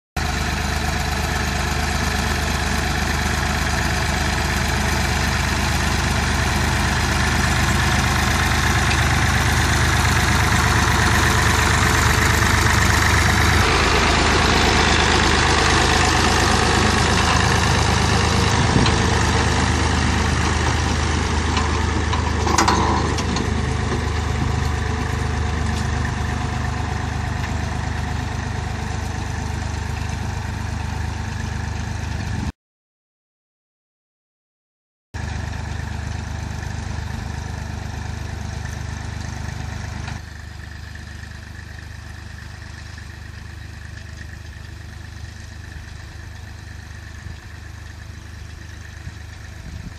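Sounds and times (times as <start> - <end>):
rotary tiller working soil: 0.2 - 32.5, 35.2 - 49.9
tractor engine running: 0.2 - 32.5, 35.2 - 49.9.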